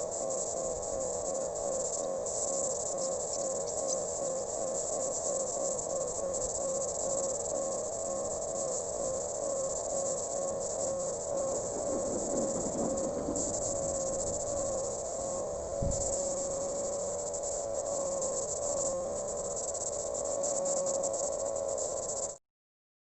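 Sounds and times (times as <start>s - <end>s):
insects chirping: 0.0s - 22.4s.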